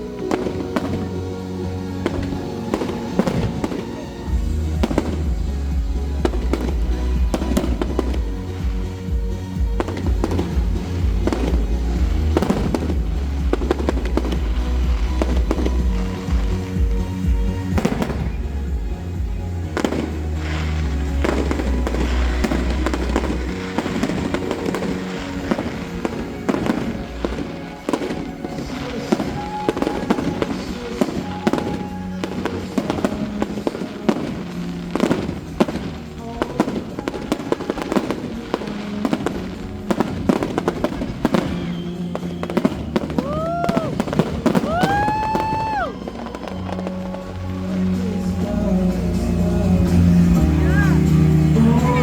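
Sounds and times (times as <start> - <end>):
fireworks bangs and bursts: 0.0 - 52.0
music with deep bass: 0.0 - 52.0.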